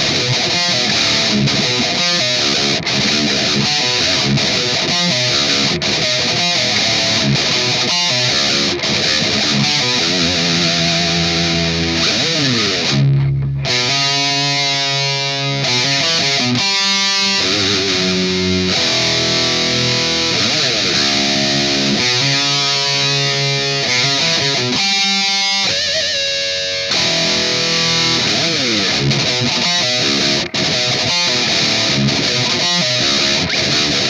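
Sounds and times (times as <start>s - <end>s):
distorted electric guitar riffing: 0.0s - 34.0s.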